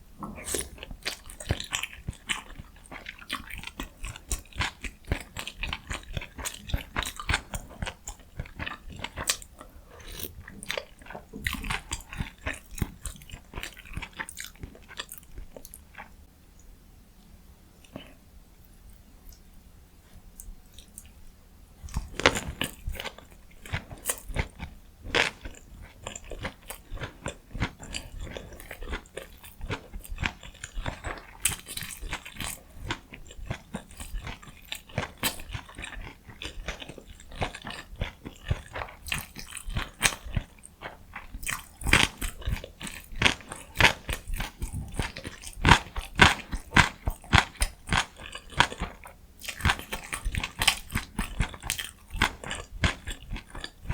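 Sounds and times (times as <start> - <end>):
person biting and chewing food: 0.3 - 16.1, 21.8 - 53.9.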